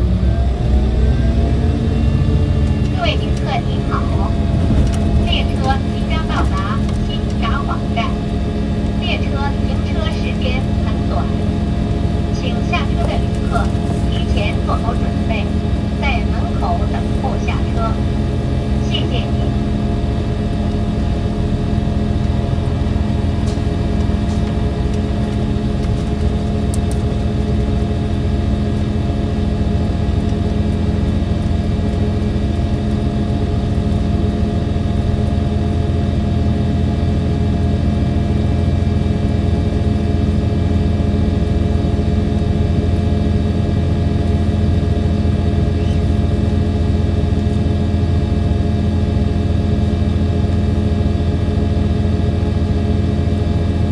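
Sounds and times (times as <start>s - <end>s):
train diesel engine droning: 0.0s - 53.9s.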